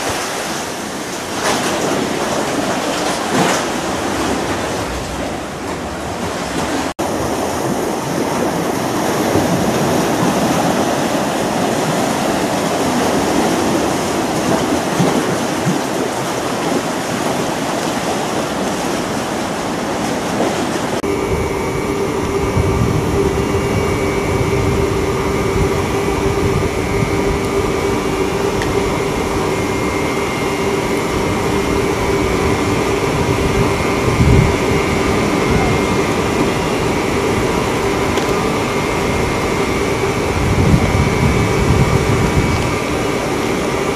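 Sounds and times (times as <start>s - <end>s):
boat engine humming: 0.0s - 43.9s
sea surf rushing: 0.0s - 43.9s.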